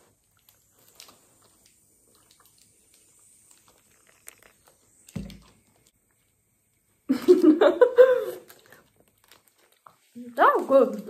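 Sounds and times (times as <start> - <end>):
paper wrapper rustling: 0.0 - 5.9, 7.3 - 11.0.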